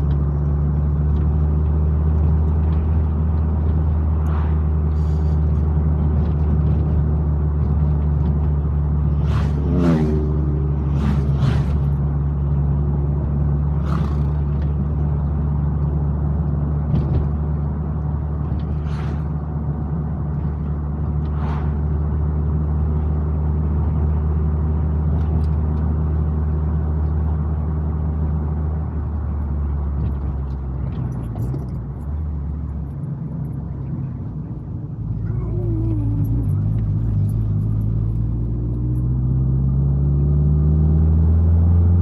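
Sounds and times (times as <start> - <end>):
car engine drone: 0.0 - 42.0
road noise: 0.0 - 42.0.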